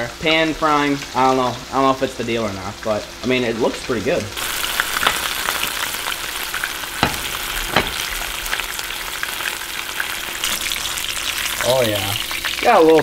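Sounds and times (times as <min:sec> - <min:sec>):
fish frying in oil sizzling: 0:00.0 - 0:13.0.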